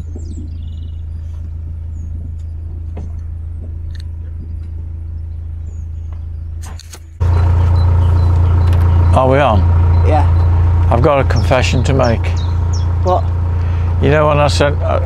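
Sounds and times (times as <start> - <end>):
diesel engine thrumming: 0.0 - 15.0.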